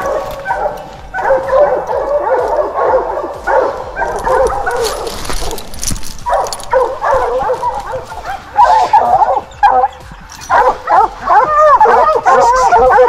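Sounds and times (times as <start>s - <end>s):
dogs barking and baying: 0.0s - 13.0s.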